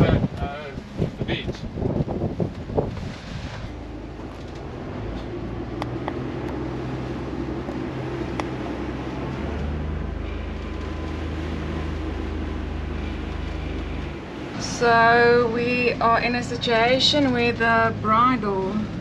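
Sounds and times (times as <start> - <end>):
diesel engines running under load: 0.0 - 19.0
strong wind: 0.0 - 19.0.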